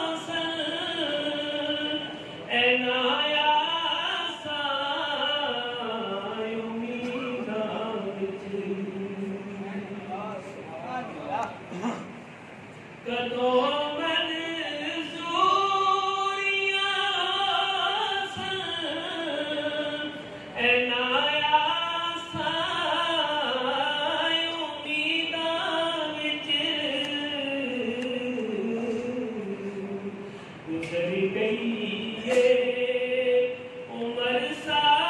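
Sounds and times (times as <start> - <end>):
man singing unaccompanied: 0.0 - 10.4, 13.0 - 35.0.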